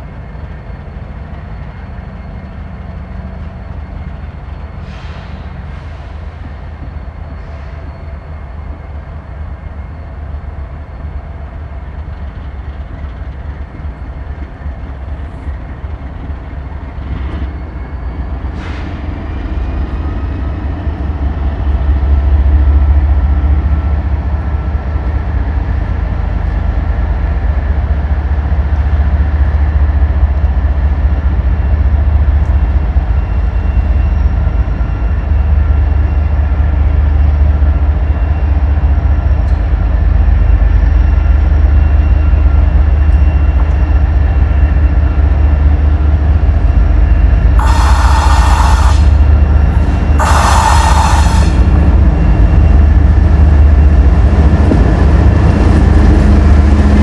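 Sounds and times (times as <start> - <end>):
high whine of wheels on rails: 0.0 - 57.0
train rumbling past: 0.0 - 57.0.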